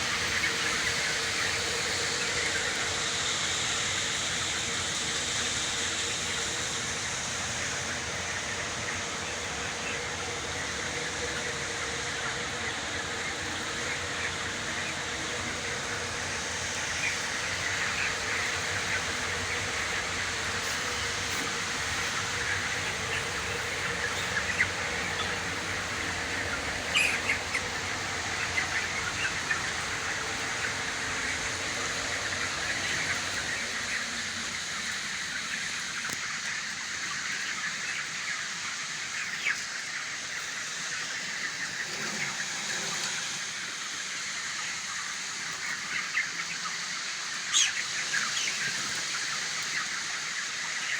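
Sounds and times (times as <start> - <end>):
chickens cheeping and calling: 0.0 - 50.9.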